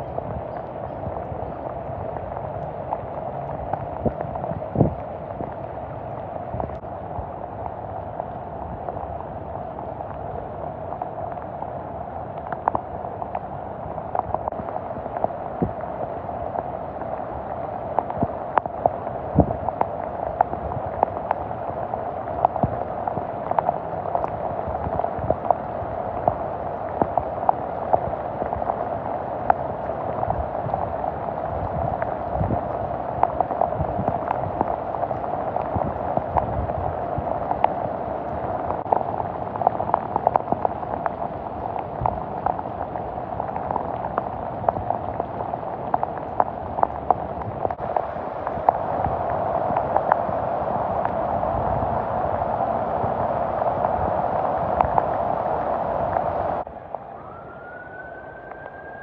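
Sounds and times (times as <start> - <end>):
heavy rain on floodwater: 0.0 - 59.0.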